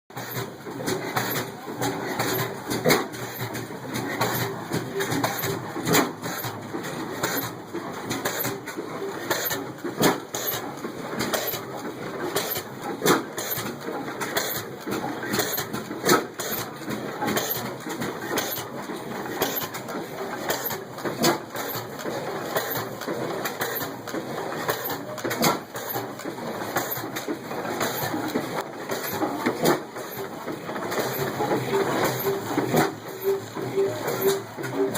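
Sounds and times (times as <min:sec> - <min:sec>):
old engines clattering: 0:00.1 - 0:34.9.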